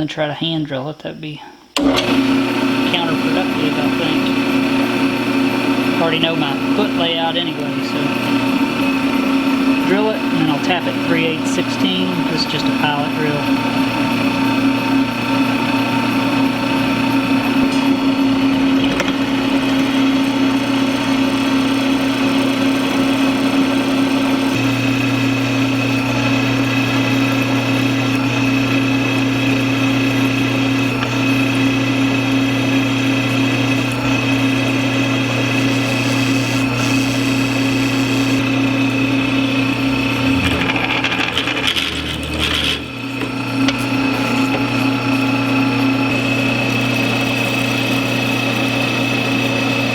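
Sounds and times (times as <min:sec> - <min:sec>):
drill press motor running: 0:01.6 - 0:49.9.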